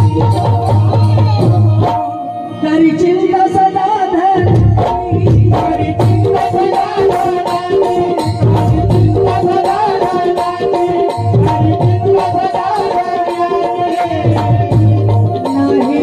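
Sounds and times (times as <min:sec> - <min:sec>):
person singing: 0:00.0 - 0:16.0
tabla drumming: 0:00.0 - 0:16.0.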